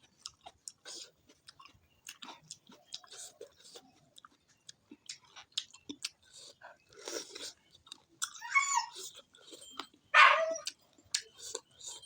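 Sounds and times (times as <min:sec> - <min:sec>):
wet chewing and smacking: 0:00.0 - 0:12.0.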